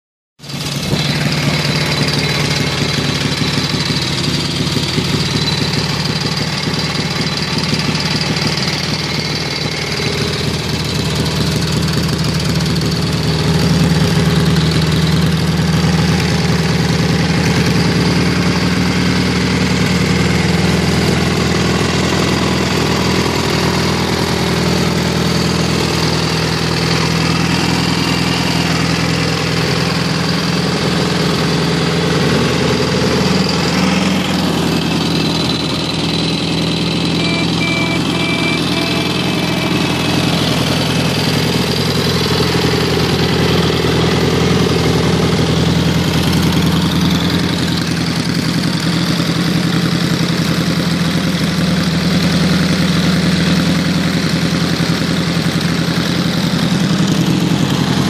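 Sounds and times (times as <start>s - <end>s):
motorcycle engine idling: 0.4s - 58.0s.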